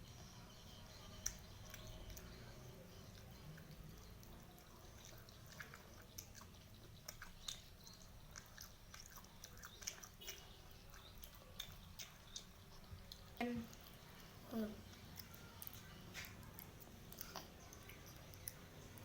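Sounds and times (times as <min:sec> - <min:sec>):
person chewing fried chicken: 0:01.0 - 0:19.0
wet mouth clicks: 0:01.2 - 0:02.4, 0:03.1 - 0:19.0.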